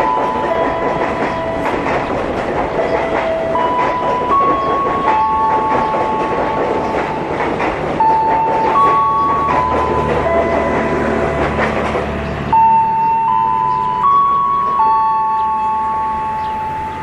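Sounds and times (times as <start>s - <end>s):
high steady tones: 0.0s - 17.0s
train rumble: 0.0s - 17.0s
train wheels clacking on rails: 0.0s - 17.0s.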